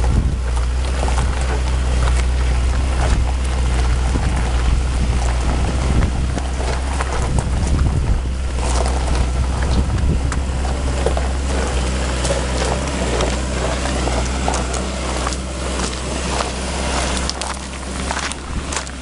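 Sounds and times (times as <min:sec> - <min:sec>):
gravel rattling under wheels: 0:00.0 - 0:19.0
low engine rumble: 0:00.0 - 0:19.0
wind buffeting microphone: 0:00.0 - 0:19.0.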